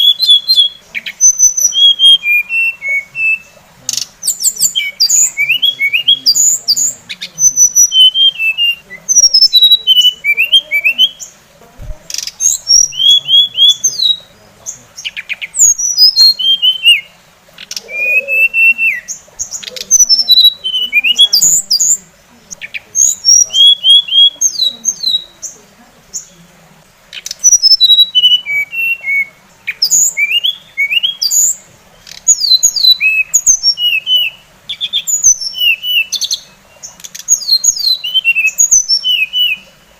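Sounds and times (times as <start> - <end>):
songbird whistling and chatter: 0.0 - 26.4, 27.1 - 39.9.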